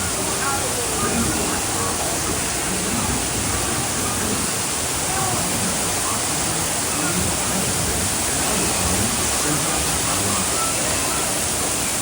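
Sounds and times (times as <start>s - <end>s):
faint voices: 0.0s - 12.0s
waterfall rushing: 0.0s - 12.0s.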